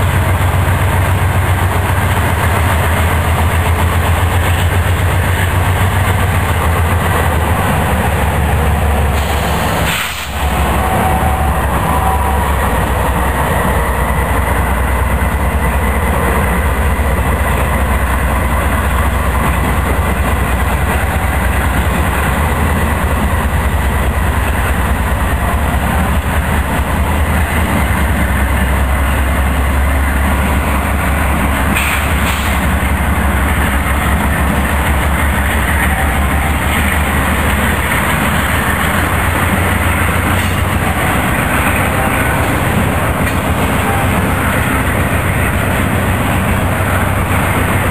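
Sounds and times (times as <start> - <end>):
freight locomotives passing: 0.0 - 47.9.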